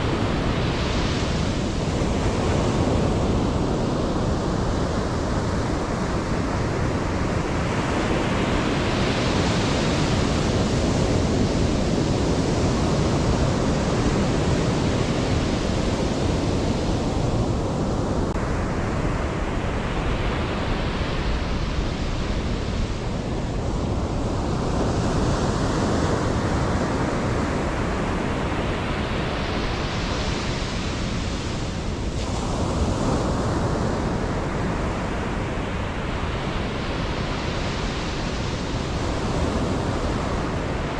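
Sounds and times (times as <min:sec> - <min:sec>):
ocean surf on beach: 0:00.0 - 0:40.9.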